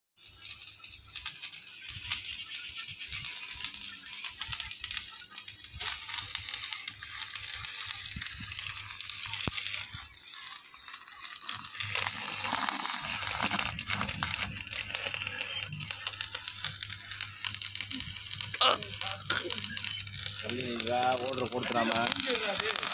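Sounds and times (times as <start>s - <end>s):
welder crackling and hissing: 0.2s - 22.9s.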